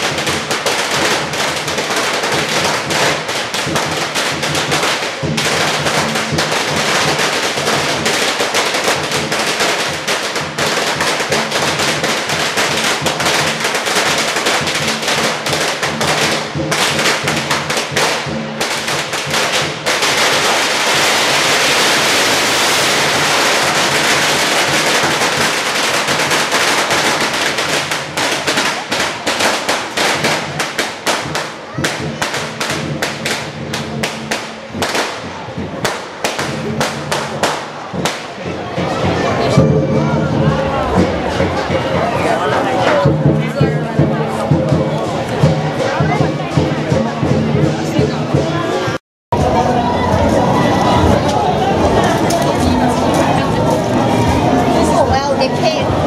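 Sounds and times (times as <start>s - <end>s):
firecrackers popping: 0.0s - 42.3s, 50.2s - 56.0s.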